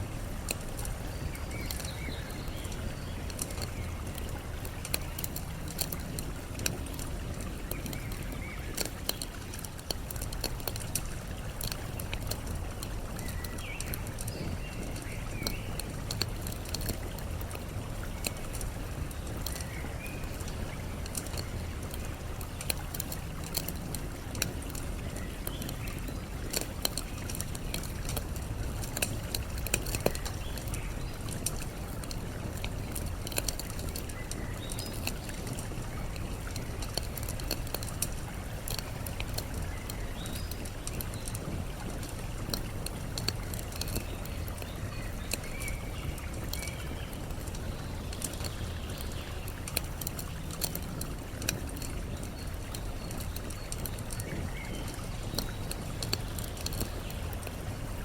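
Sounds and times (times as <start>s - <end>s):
campfire crackling and popping: 0.0s - 58.0s
flowing water: 0.0s - 58.0s.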